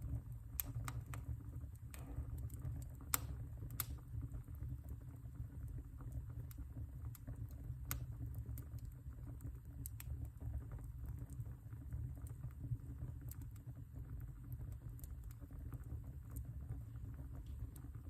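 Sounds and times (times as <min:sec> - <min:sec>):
low rumble of flames: 0:00.0 - 0:18.0
logs crackling and popping: 0:00.1 - 0:18.0.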